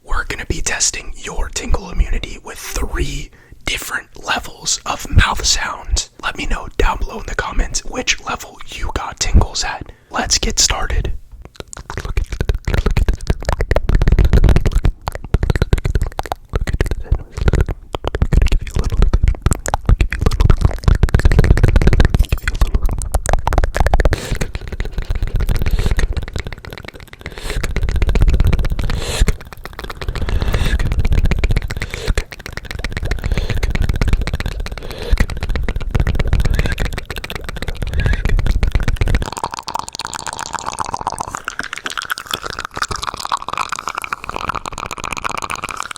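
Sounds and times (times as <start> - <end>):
wet mouth clicks and smacks: 0.1 - 45.9.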